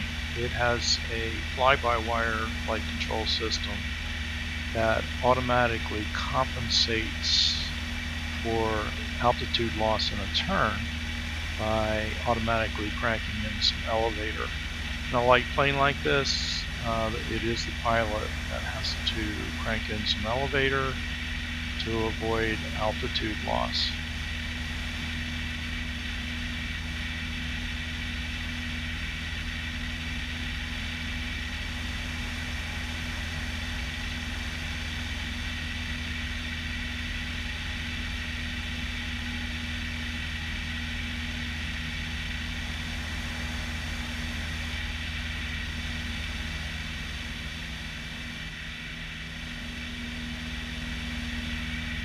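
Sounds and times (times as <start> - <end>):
light aircraft engine drone: 0.0 - 52.0.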